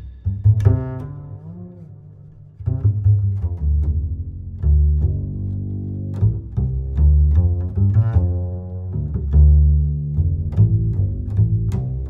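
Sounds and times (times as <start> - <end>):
music with deep bass line: 0.0 - 12.0.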